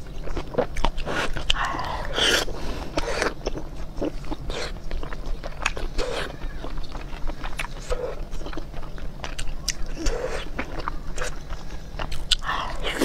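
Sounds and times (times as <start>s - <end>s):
wet chewing and lip-smacking: 0.0s - 13.0s.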